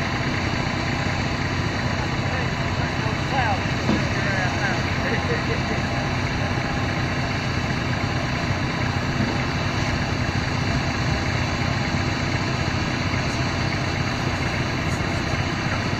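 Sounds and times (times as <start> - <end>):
outboard engine running: 0.0 - 15.9.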